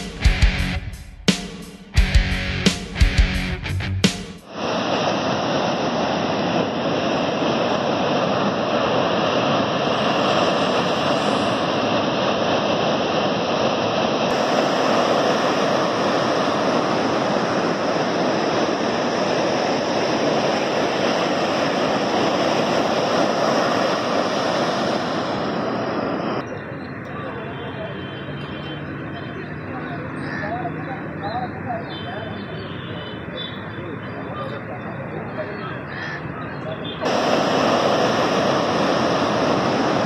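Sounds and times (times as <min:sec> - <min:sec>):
ocean surf on beach: 0:04.4 - 0:40.0.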